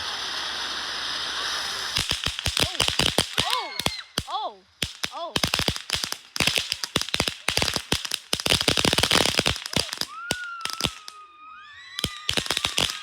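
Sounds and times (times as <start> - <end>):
fireworks crackling: 0.0 - 13.0
whistling fireworks: 0.0 - 13.0.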